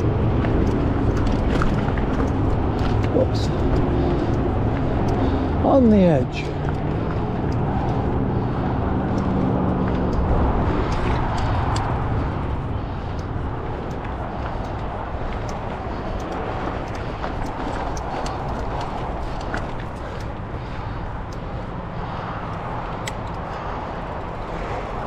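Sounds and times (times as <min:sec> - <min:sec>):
bike clicks and rattles: 0:00.0 - 0:25.0
steady rushing ride noise: 0:00.0 - 0:25.0.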